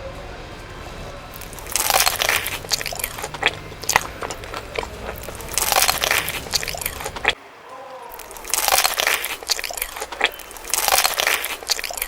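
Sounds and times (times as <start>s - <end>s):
crunching fried chicken bites: 1.2s - 12.0s.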